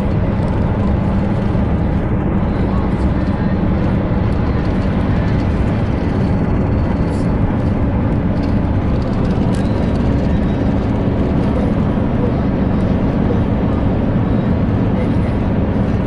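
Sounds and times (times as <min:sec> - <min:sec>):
low engine hum: 0:00.0 - 0:16.0
road and wind noise: 0:00.0 - 0:16.0.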